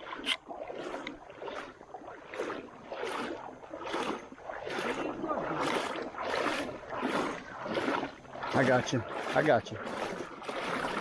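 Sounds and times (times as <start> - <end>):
paddle strokes splashing in water: 0.0 - 11.0.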